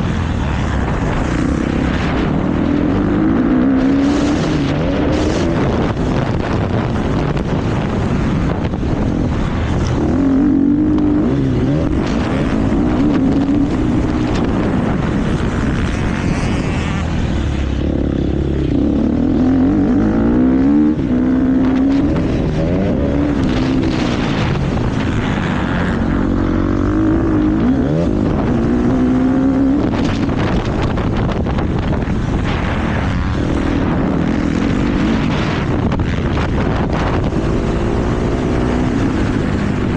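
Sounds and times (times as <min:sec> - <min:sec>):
motocross bike engine revving: 0:00.0 - 0:39.9
track noise: 0:00.0 - 0:39.9
wind noise: 0:00.0 - 0:39.9.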